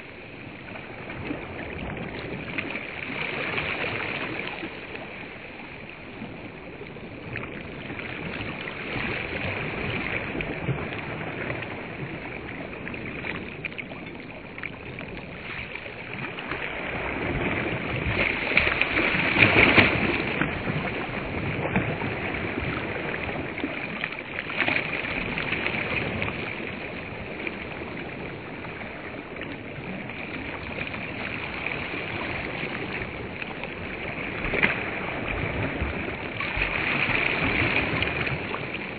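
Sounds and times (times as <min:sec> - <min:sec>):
small waves washing onto sand: 0:00.0 - 0:38.9.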